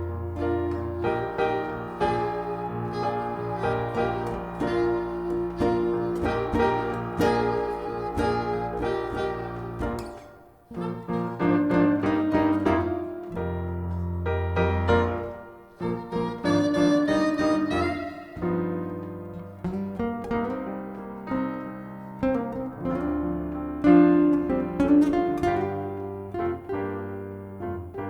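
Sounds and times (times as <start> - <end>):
jazz piano: 0.0 - 28.0.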